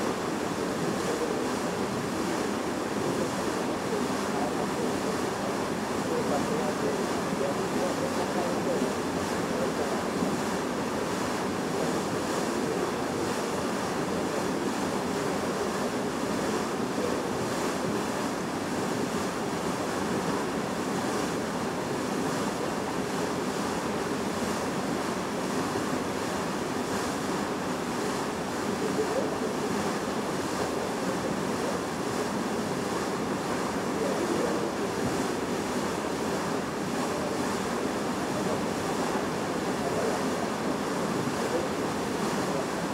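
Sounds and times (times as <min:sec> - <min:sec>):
water rushing against ship hull: 0:00.0 - 0:42.9.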